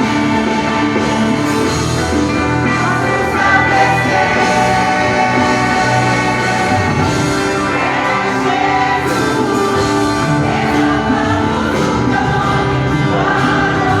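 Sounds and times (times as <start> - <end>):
choir singing with instruments: 0.0 - 14.0.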